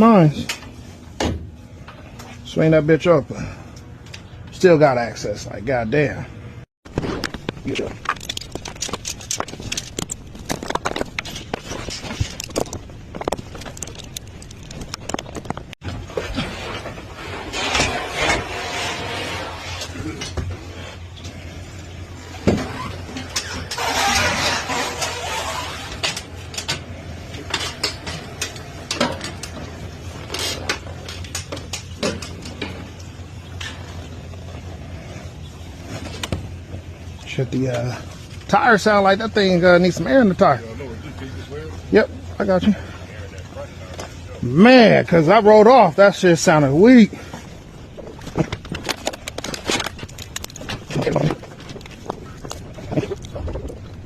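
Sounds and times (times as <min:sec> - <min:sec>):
steady low rumble: 0:00.0 - 0:22.4, 0:26.2 - 0:54.0
steady low hum: 0:00.0 - 0:54.0.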